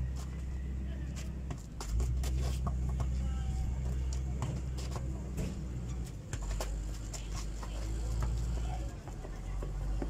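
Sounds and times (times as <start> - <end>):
basketball bouncing on dirt: 1.2 - 10.0.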